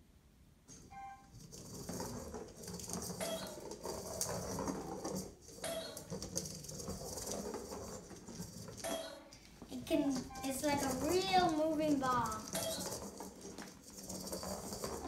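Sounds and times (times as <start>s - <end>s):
robot ball rolling on wood floor: 0.7s - 15.0s.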